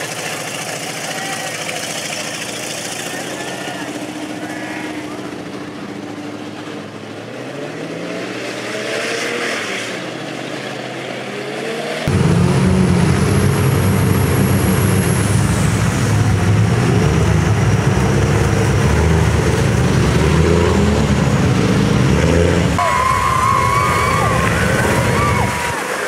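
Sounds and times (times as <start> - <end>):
pickup engine rumbling in mud: 0.0 - 10.8, 12.0 - 26.0
truck engines revving: 0.0 - 26.0.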